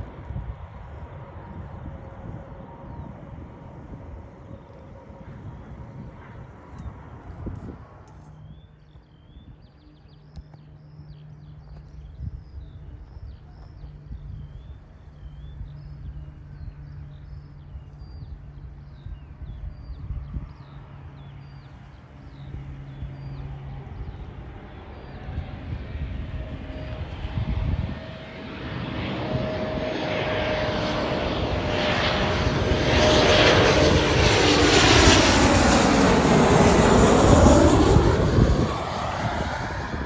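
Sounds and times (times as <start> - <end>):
jet aircraft noise: 0.0 - 40.0.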